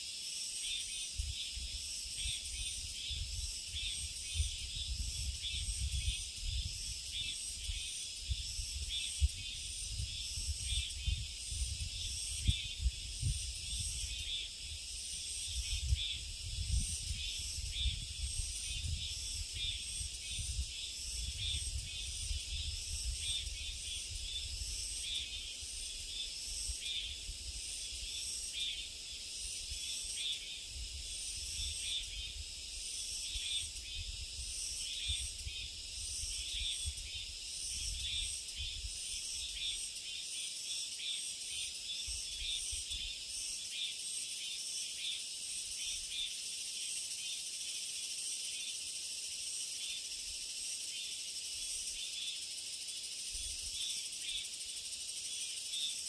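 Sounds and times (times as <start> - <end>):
insects chorus: 0.0 - 56.0.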